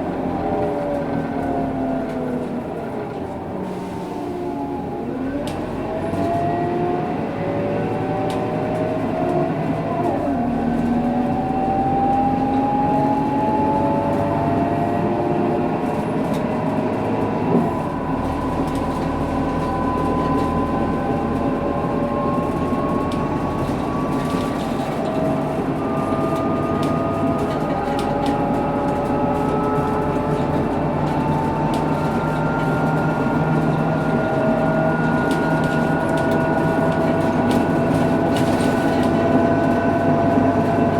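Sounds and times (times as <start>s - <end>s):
bus differential whine: 0.0s - 40.9s
diesel engine: 0.0s - 40.9s.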